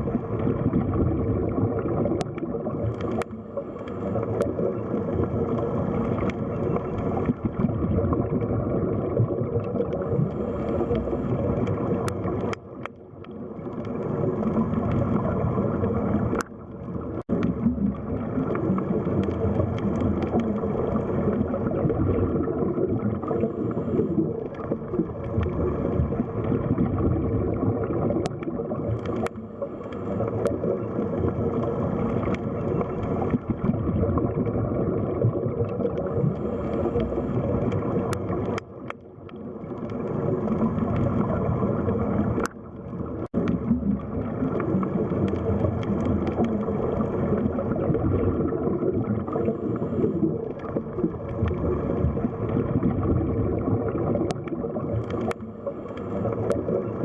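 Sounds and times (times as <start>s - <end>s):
muffled underwater churn: 0.0s - 57.0s.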